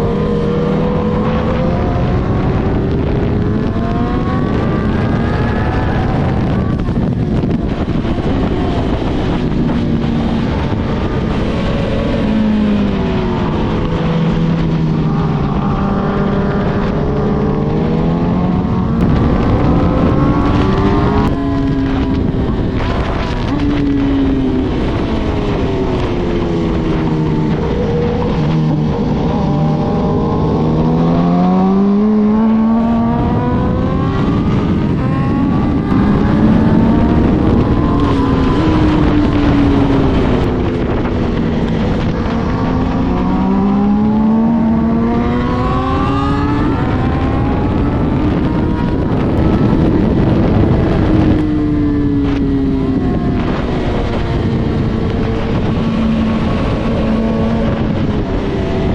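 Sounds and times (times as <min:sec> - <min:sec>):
sport bike engine accelerating: 0:00.0 - 0:58.9
wind rush: 0:00.0 - 0:58.9.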